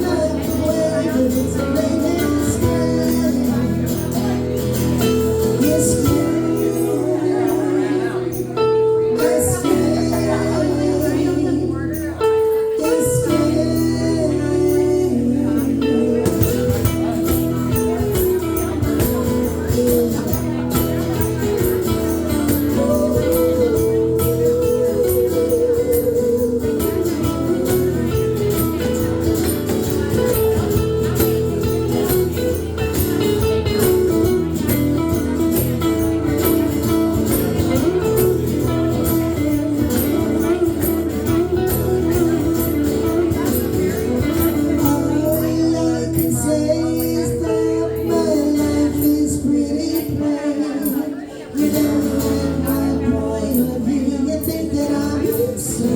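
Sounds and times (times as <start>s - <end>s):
rock guitar: 0.0s - 55.9s.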